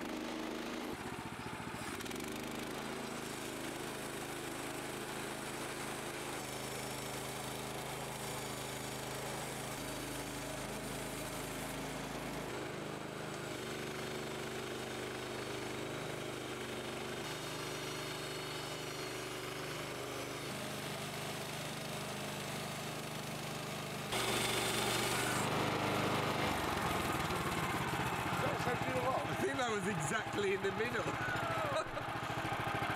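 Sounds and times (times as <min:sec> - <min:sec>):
bandsaw mill engine cutting log: 0:00.0 - 0:32.9.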